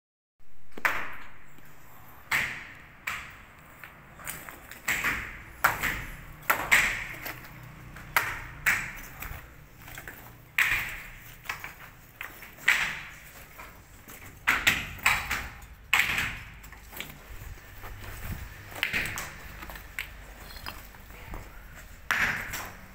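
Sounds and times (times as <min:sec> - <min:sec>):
footsteps on rubble and concrete: 0:02.8 - 0:22.9.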